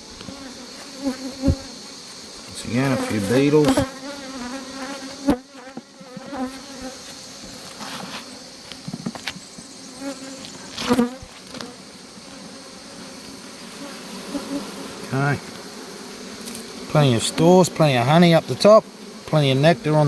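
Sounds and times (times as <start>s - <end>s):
honey bees buzzing: 0.0s - 20.0s.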